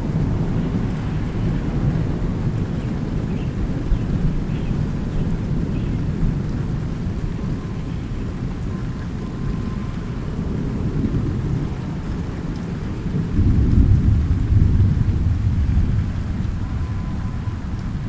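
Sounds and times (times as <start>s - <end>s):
low thunder rumbling: 0.0s - 18.0s
steady rain: 0.0s - 18.0s.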